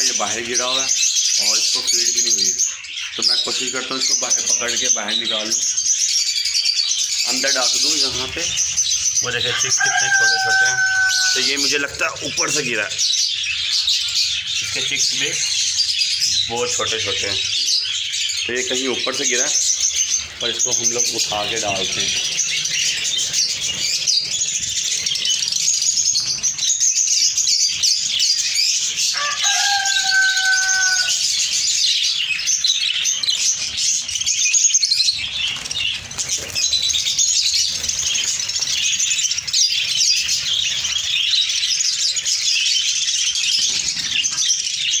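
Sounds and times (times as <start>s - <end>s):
budgerigars chattering: 0.0s - 45.0s.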